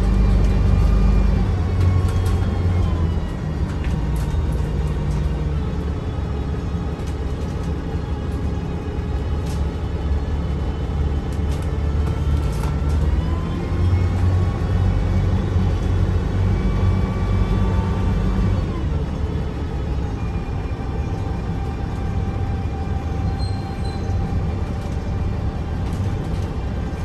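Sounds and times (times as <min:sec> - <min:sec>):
diesel bus engine rumble: 0:00.0 - 0:27.0.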